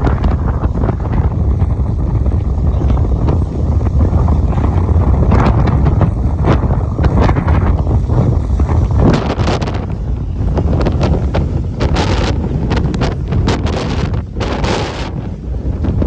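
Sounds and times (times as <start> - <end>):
rough sea: 0.0 - 16.0
wind buffeting microphone: 0.0 - 16.0.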